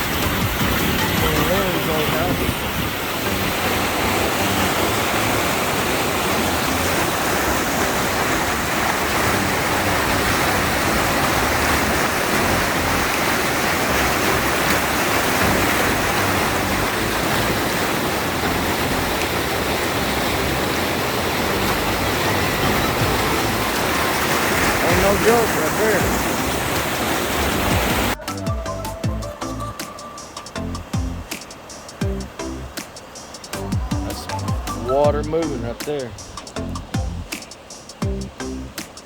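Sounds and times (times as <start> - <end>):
floodwater rushing in a creek: 0.0 - 39.0.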